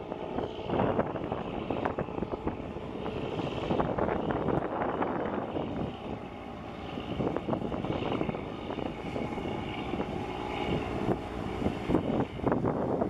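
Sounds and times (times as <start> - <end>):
boat engine drone: 0.0 - 13.0
wind buffeting microphone: 0.0 - 13.0.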